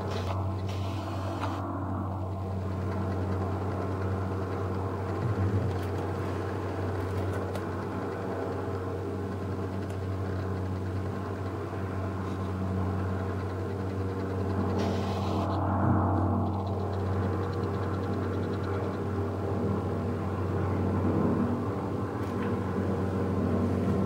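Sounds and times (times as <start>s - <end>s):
helicopter engine and rotor drone: 0.0s - 24.0s.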